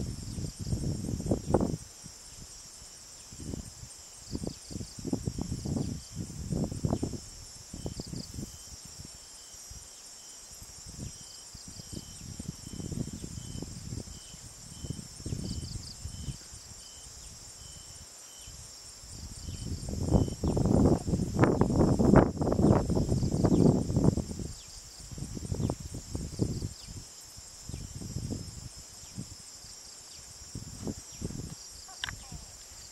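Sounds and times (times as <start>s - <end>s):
insects pulsing drone: 0.0s - 32.9s
short insect chirp: 0.0s - 32.9s.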